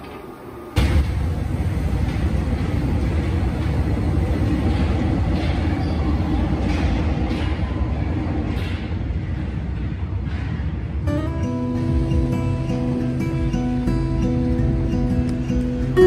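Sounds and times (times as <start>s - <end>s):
underground train rumbling: 0.0s - 16.0s.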